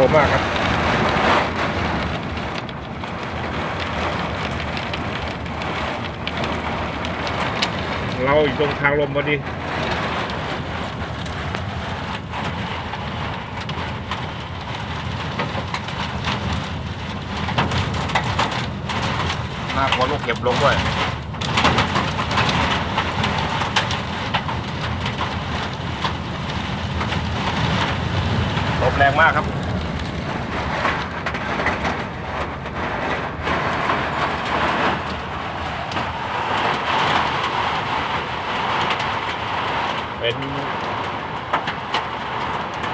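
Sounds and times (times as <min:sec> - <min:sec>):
hailstones striking: 0:00.0 - 0:42.9
heavy rain: 0:00.0 - 0:42.9
strong wind: 0:00.0 - 0:42.9.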